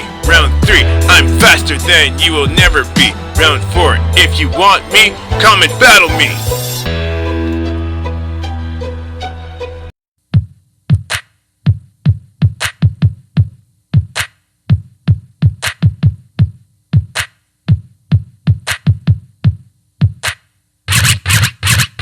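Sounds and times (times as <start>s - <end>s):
drum machine beat: 0.0s - 6.7s, 10.3s - 22.0s.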